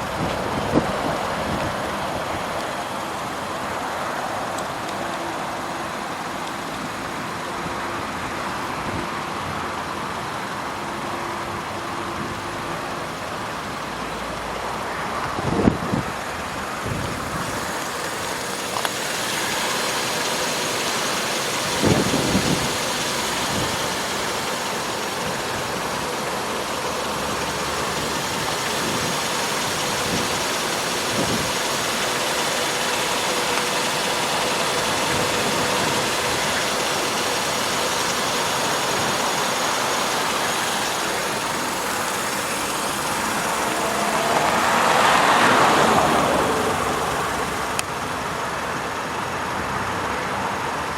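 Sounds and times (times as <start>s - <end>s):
car engine running: 0.0s - 50.9s
road noise: 0.0s - 50.9s.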